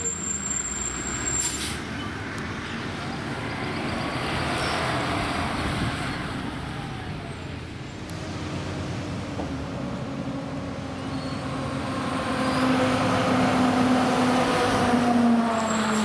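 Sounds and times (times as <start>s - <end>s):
diesel engine rumble: 0.0s - 16.0s
tyre and road noise: 0.0s - 16.0s.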